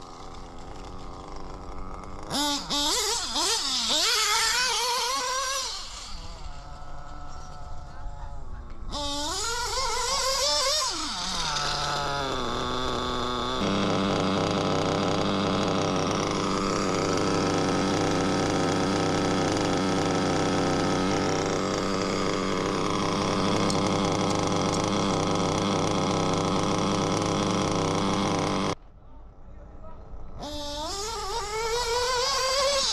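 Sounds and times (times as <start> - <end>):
small nitro engine idling: 0.0 - 28.8, 29.8 - 32.9.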